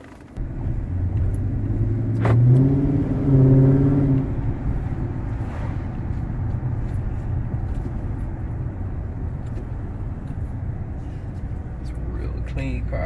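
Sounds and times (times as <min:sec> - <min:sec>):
car engine low rumble: 0:00.0 - 0:13.0
road noise: 0:00.0 - 0:13.0.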